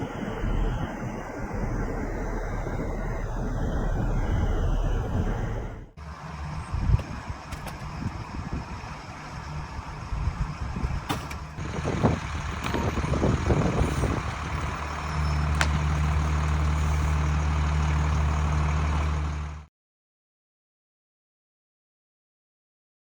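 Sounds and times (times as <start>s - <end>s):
truck diesel engine: 0.0s - 19.7s.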